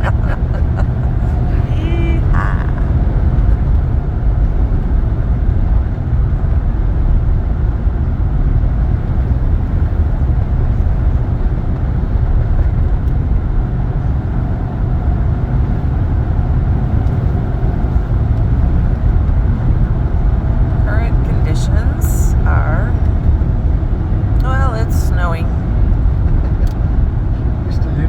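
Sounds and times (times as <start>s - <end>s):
tyres on snowy road: 0.0s - 28.0s
vehicle engine rumble: 0.0s - 28.0s.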